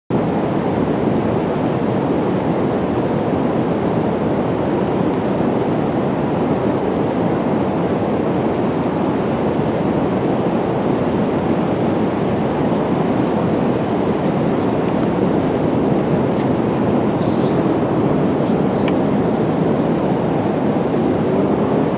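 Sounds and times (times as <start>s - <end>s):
wind: 0.1s - 21.9s
ocean surf: 0.2s - 21.9s.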